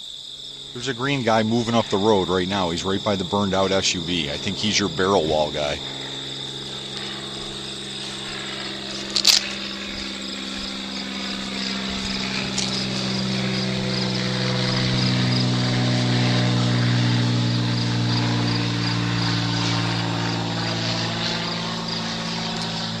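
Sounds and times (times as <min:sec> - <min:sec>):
engine drone passing: 0:00.0 - 0:23.0
insects chirping in grass: 0:00.0 - 0:23.0.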